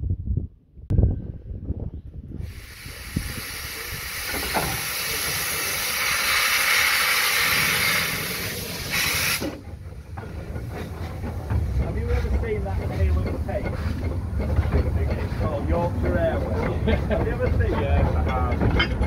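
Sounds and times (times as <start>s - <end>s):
steam locomotive hissing: 2.4s - 19.0s.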